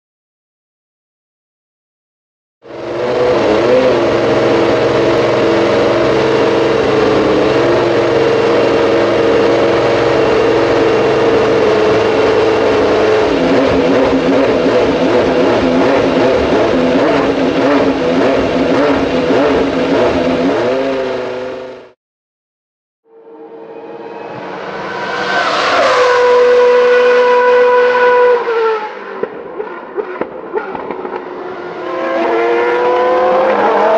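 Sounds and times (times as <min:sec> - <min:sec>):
racing engine idling and revving: 0:02.6 - 0:22.0, 0:23.1 - 0:33.9.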